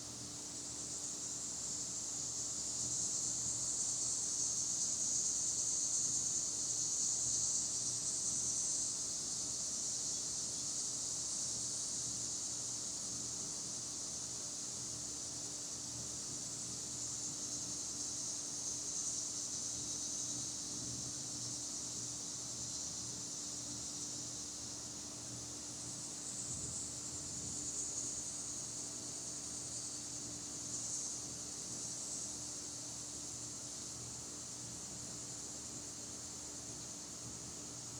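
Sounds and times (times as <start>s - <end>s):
insects buzzing: 0.6s - 14.3s, 16.1s - 37.9s.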